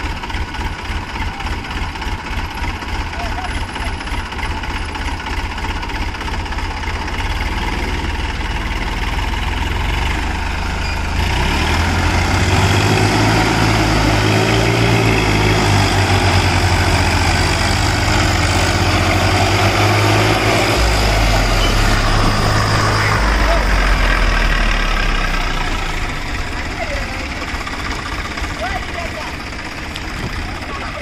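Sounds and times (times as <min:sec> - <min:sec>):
diesel tractor engines under load: 0:00.0 - 0:31.0.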